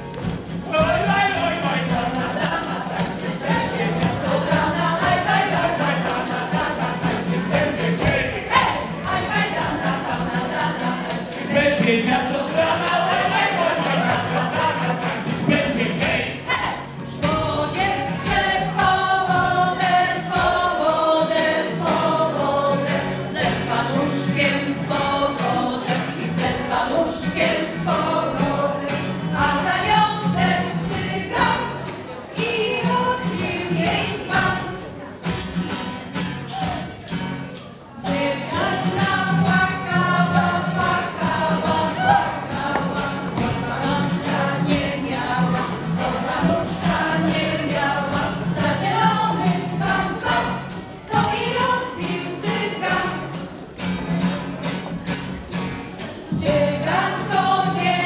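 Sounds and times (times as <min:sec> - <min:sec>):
folk ensemble singing in chorus: 0:00.0 - 0:58.0
instrumental accompaniment: 0:00.0 - 0:58.0
jingling percussion: 0:00.0 - 0:58.0.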